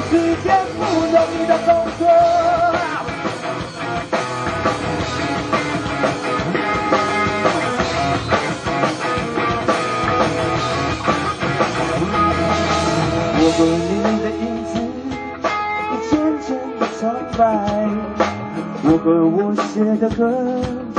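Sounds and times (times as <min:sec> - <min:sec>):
drum kit beat: 0:00.0 - 0:20.9
electric guitars: 0:00.0 - 0:20.9.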